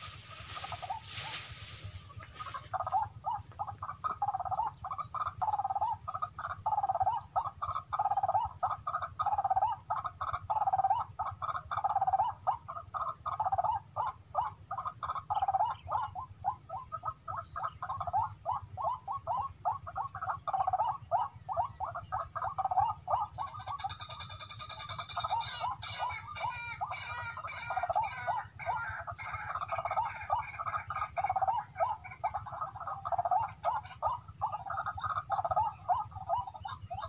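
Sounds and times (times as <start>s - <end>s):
fast pulsing animal call: 0.0s - 37.0s.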